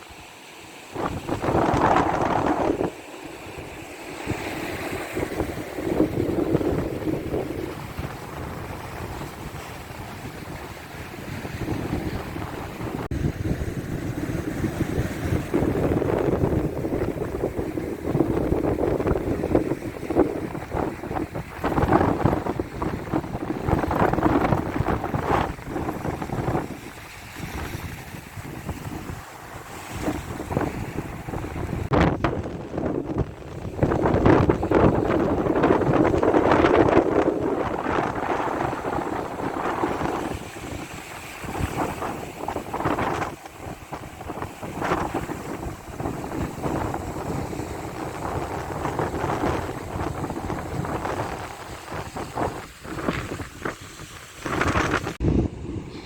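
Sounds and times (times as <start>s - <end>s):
wind buffeting microphone: 0.9s - 56.0s.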